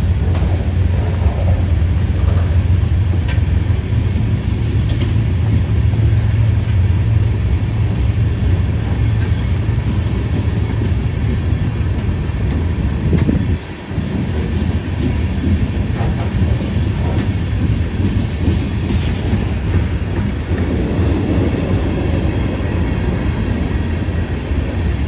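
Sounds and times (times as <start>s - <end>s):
diesel locomotives rumbling by: 0.0s - 25.0s.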